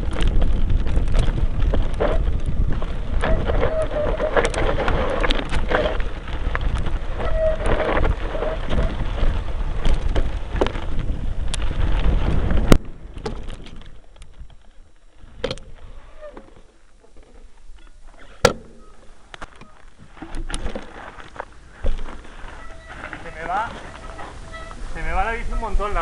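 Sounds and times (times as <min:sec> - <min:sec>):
bike rumble and rattle on trail: 0:00.0 - 0:26.0.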